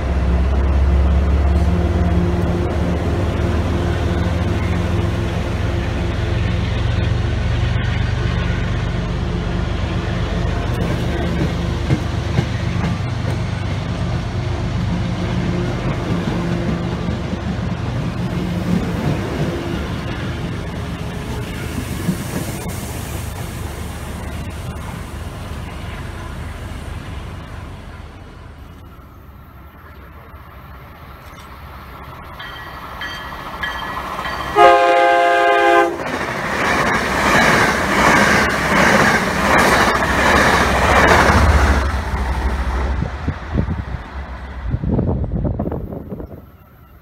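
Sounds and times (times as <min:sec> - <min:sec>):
train wheels rumbling and clicking: 0:00.0 - 0:47.0.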